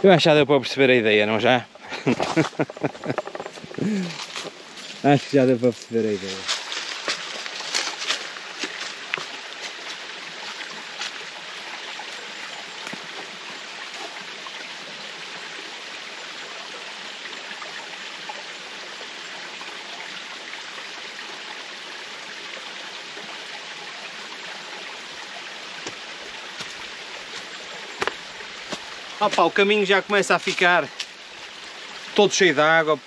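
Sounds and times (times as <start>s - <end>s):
stream of water running: 0.0s - 33.0s.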